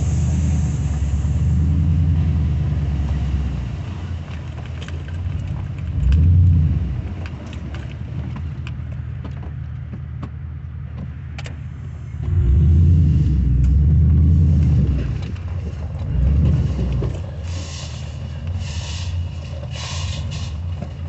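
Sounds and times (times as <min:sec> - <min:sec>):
pickup truck engine running: 0:00.0 - 0:21.0.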